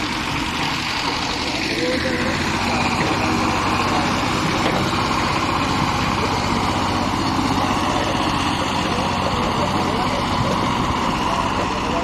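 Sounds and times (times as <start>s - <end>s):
heavy machinery diesel engine running: 0.0s - 12.0s.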